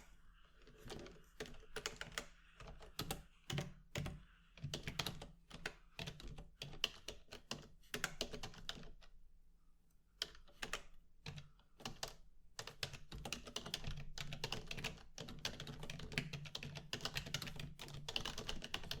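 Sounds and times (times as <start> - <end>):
computer keyboard typing: 0.7 - 8.9, 10.2 - 19.0.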